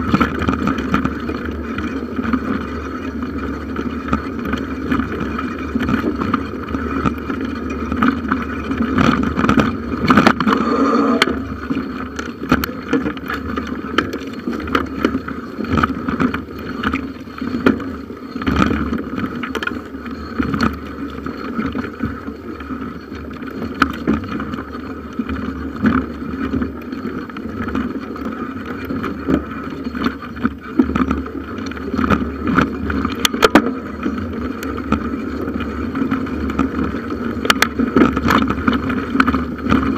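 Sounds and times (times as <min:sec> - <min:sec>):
bicycle rumble and rattle: 0:00.0 - 0:39.9.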